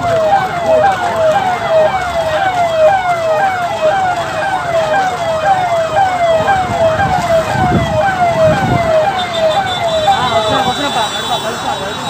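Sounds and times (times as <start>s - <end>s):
police siren: 0.0s - 12.0s
second siren sweeping: 0.0s - 12.0s.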